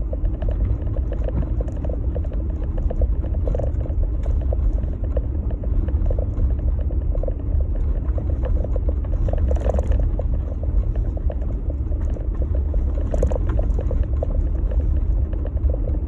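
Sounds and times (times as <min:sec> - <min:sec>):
engine and tyres rumbling: 0:00.0 - 0:16.0.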